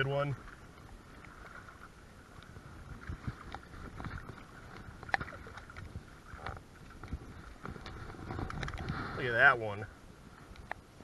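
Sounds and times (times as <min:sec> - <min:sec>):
water splashing: 0:00.0 - 0:09.8.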